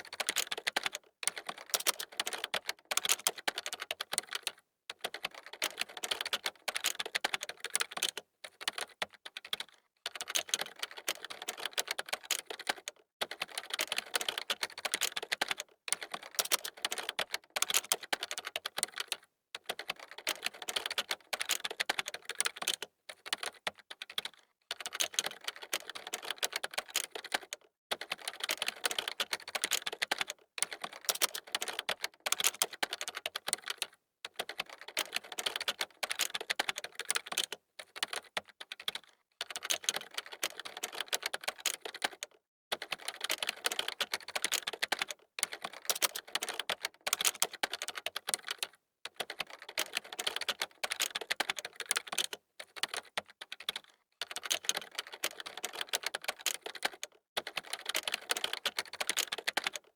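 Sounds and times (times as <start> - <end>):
fast typing on a keyboard: 0.0 - 59.9.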